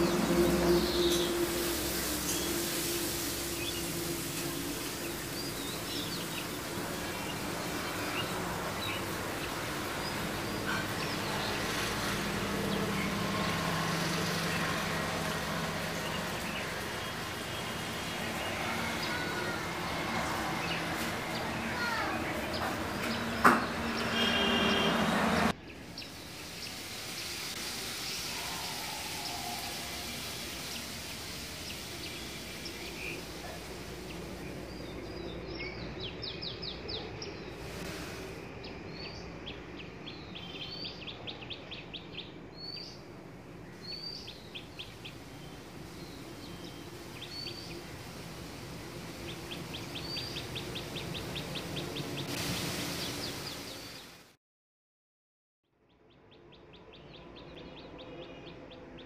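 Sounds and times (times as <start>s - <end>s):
outdoor background hiss: 0.0s - 54.4s
small birds chirping: 3.5s - 54.2s.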